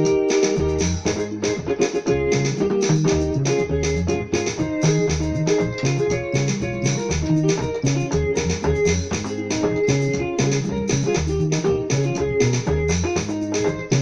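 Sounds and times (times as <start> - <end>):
electronic keyboard gospel song: 0.0 - 14.0.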